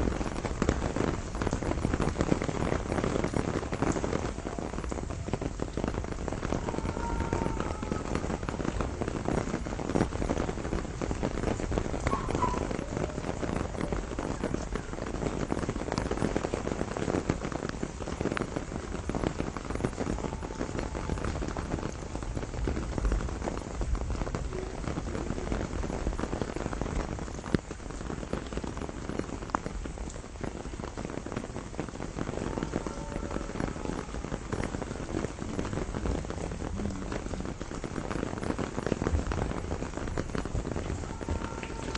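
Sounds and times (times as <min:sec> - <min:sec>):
rain pattering on leaves: 0:00.0 - 0:41.9.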